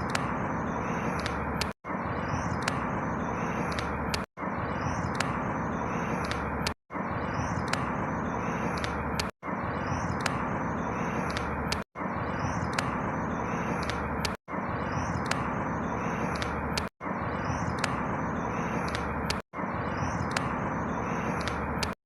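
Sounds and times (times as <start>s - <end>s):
faint high bird chirps: 0.0s - 22.0s.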